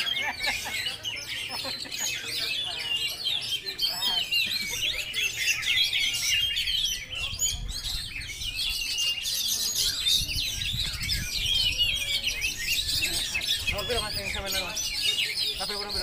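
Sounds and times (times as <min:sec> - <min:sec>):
birds singing in chorus: 0:00.0 - 0:16.0.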